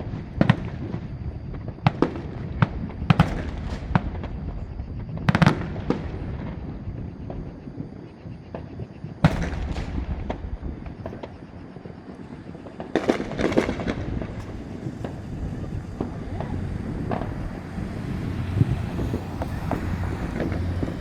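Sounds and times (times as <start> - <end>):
fireworks banging and crackling: 0.0 - 21.0.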